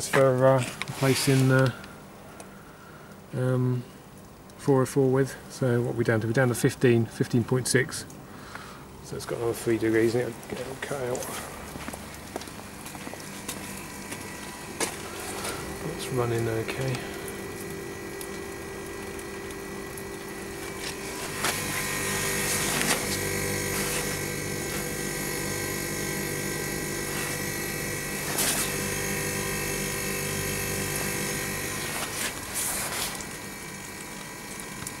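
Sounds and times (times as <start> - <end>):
refrigeration unit humming: 0.0 - 35.0.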